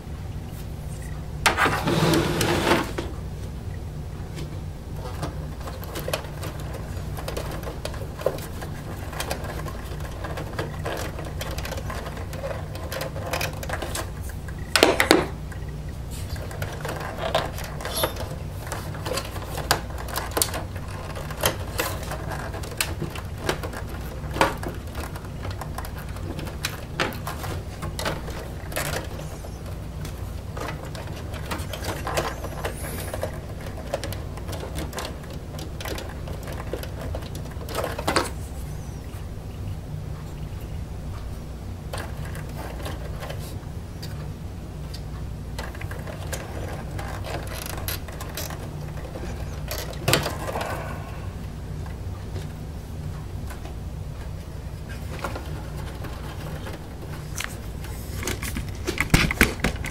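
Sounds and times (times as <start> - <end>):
steady low hum: 0.0 - 59.9
cables and plastic connectors rattling: 0.6 - 59.9.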